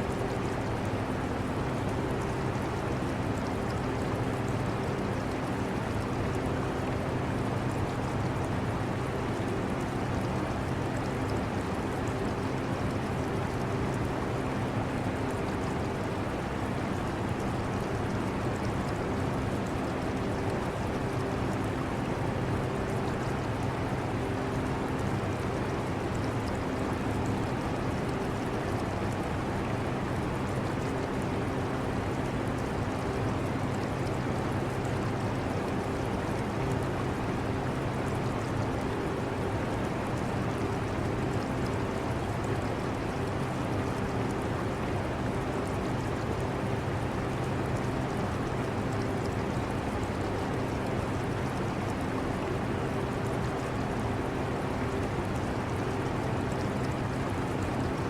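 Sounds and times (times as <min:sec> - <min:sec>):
aquarium water trickling: 0:00.0 - 0:58.0.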